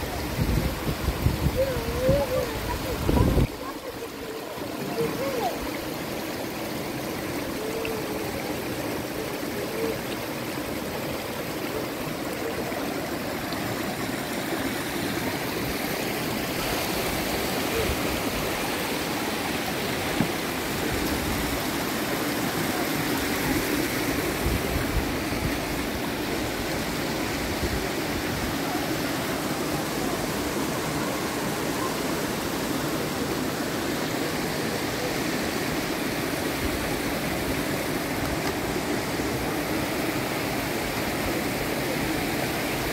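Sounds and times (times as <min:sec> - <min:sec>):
flowing water: 0:00.0 - 0:42.9.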